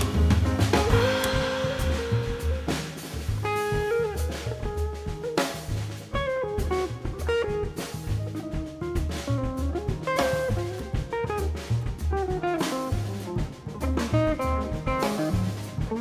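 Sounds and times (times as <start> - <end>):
bass: 0.0 - 16.0
drum kit: 0.0 - 16.0
electric guitar melody: 0.0 - 16.0.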